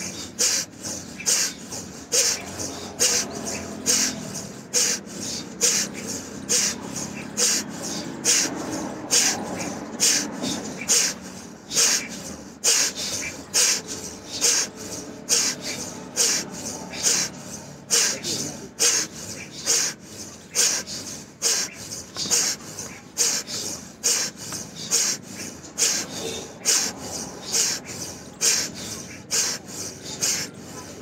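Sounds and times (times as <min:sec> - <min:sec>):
forceful rhythmic nasal breathing: 0:00.0 - 0:31.0.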